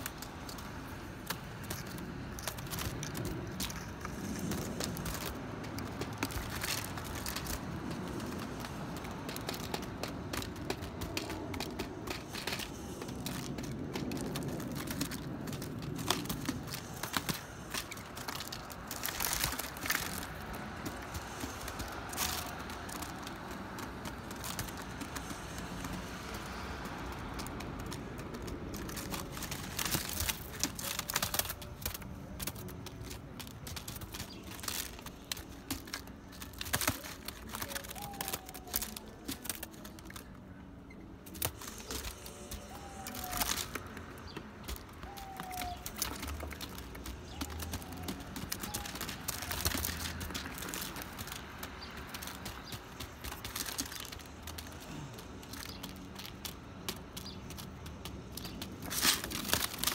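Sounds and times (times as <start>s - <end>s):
doves pecking on foil: 0.0s - 59.9s.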